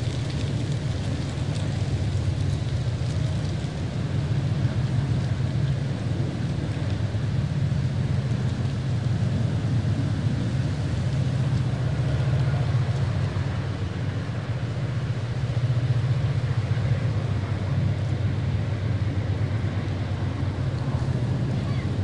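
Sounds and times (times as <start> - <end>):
train engine rumble: 0.0 - 22.0.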